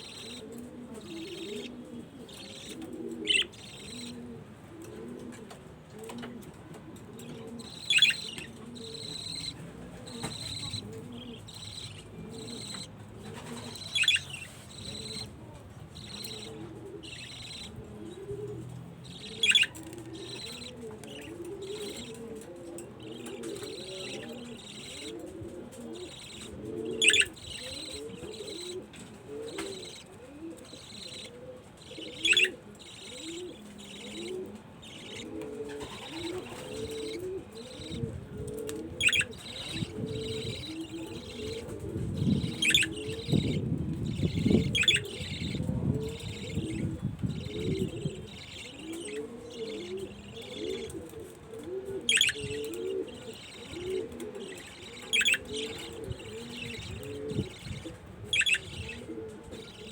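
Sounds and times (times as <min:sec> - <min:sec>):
pigeons cooing: 0:00.0 - 0:59.9
budgerigars chattering: 0:01.0 - 0:04.2, 0:07.6 - 0:12.9, 0:13.6 - 0:15.4, 0:16.0 - 0:17.8, 0:19.0 - 0:22.2, 0:23.0 - 0:25.2, 0:26.0 - 0:28.8, 0:29.5 - 0:30.1, 0:30.7 - 0:38.1, 0:39.0 - 0:51.0, 0:52.0 - 0:59.9.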